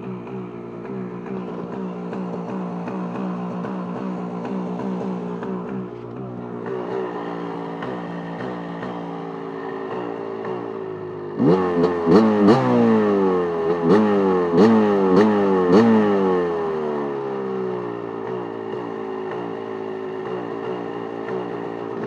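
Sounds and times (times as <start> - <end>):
engine throttle blips: 0.0 - 22.0
two-stroke engine idling: 0.0 - 22.0.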